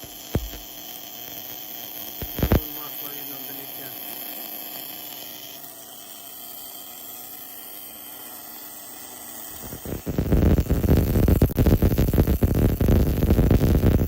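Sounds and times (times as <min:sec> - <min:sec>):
welder hissing and humming: 0:00.0 - 0:14.0.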